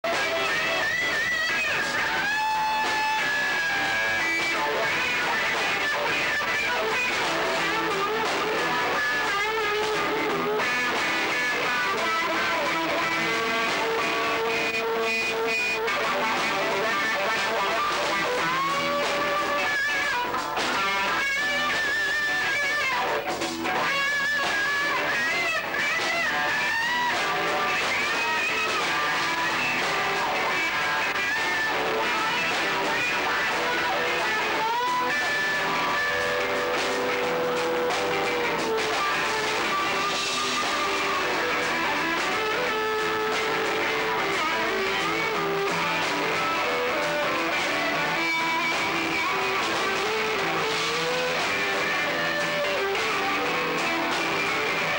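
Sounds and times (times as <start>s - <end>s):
electric guitar melody: 0.0s - 54.9s
live rock band playing: 0.0s - 54.9s.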